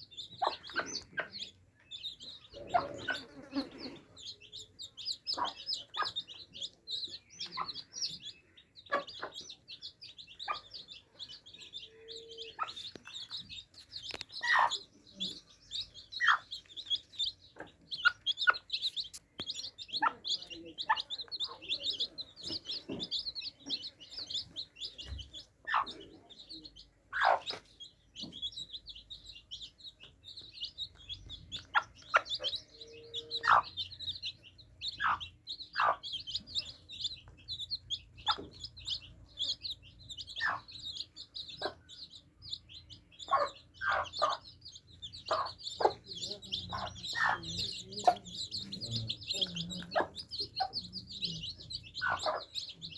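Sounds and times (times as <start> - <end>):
baby chicks peeping: 0.0 - 52.9.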